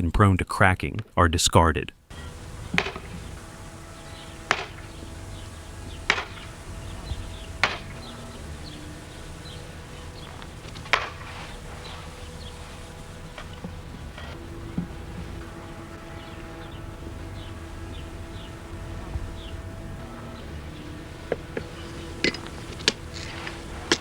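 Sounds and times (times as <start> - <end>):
low hum: 2.1 - 24.0.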